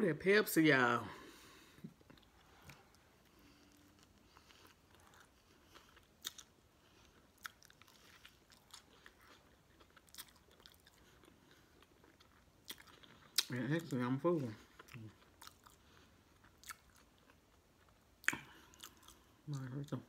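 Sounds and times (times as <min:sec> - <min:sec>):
chewing and biting sandwich: 0:01.9 - 0:20.0.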